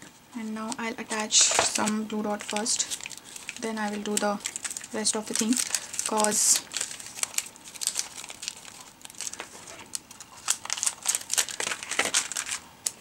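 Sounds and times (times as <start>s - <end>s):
plastic sheet crinkling: 0.4s - 13.0s.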